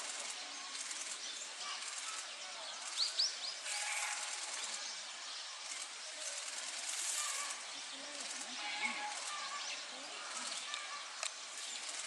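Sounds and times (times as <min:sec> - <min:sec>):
bird chirping: 0:00.0 - 0:12.0
outdoor background hiss: 0:00.0 - 0:12.0.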